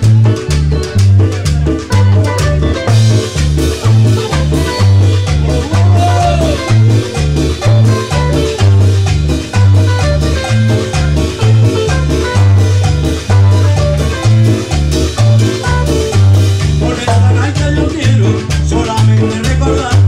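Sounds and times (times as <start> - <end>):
timbales and percussion: 0.0 - 17.4
latin dance band playing: 0.0 - 20.0
pulsing bass line: 0.0 - 20.0.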